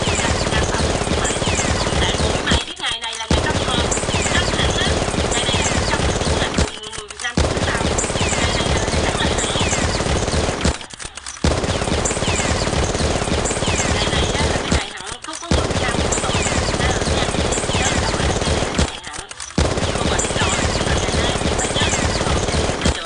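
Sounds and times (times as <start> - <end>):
rapid automatic gunfire: 0.0 - 23.0.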